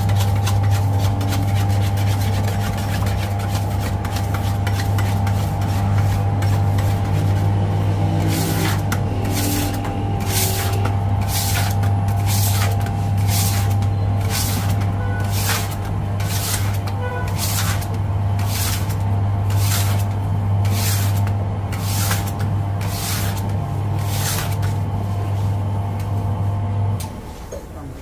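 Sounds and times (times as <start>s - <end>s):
machinery humming: 0.0s - 28.0s.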